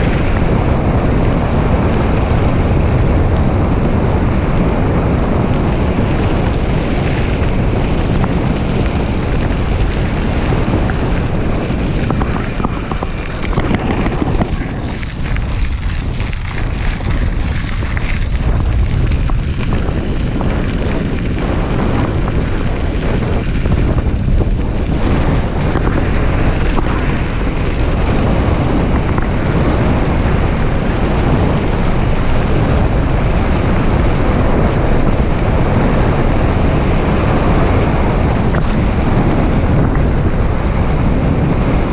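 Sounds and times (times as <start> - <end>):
bike rattles: 0.0 - 41.9
wind buffeting microphone: 0.0 - 41.9.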